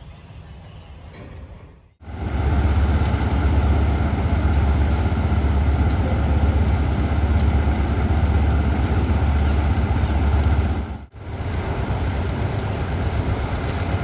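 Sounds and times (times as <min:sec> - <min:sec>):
diesel train engine running: 0:02.0 - 0:14.0.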